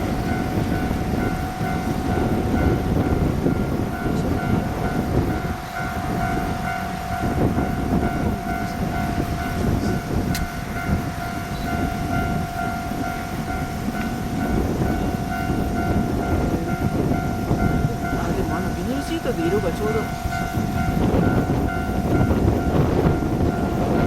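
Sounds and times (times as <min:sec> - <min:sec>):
steady whine: 0:00.0 - 0:24.0
train engine and wheels rumbling: 0:00.0 - 0:24.0.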